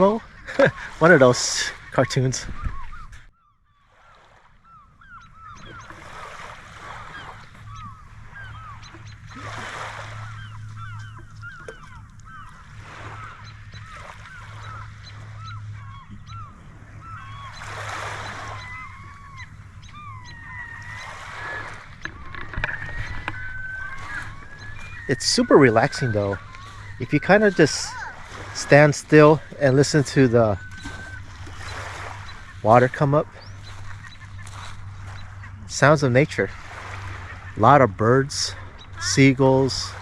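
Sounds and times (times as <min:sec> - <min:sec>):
seagulls squawking: 0:00.0 - 0:40.0
low steady hum: 0:07.2 - 0:40.0.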